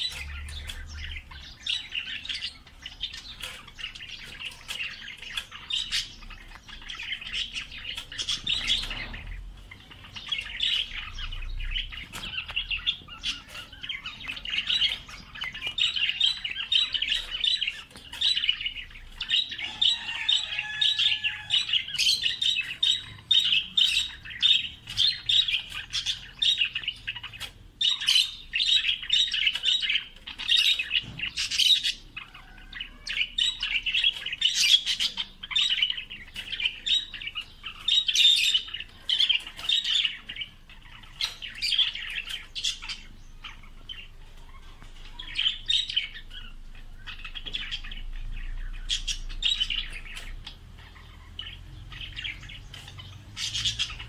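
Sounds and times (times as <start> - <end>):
budgerigars chattering and warbling: 0.0 - 54.0.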